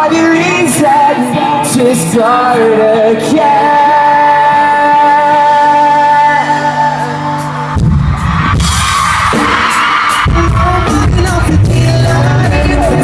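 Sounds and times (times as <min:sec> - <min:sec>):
live pop-rock band: 0:00.0 - 0:13.0.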